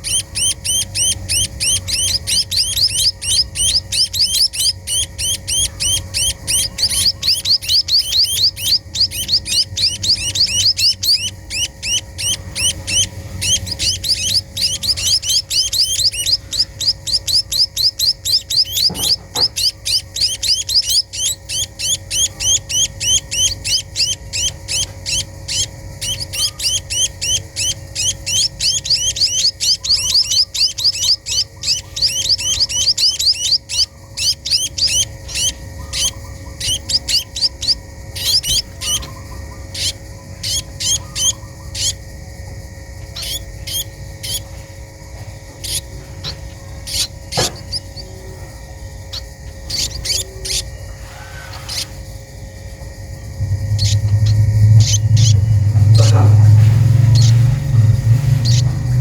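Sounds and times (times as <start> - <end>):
small bird chirping rapidly: 0.0 - 59.0.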